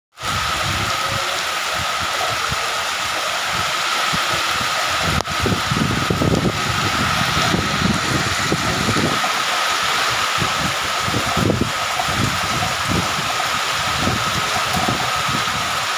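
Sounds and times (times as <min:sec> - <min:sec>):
heavy rain pouring: 0:00.1 - 0:15.9.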